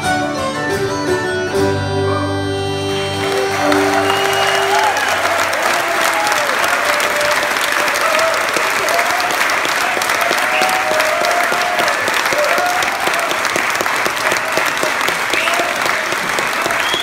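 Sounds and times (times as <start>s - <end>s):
audience applauding: 2.7s - 17.0s.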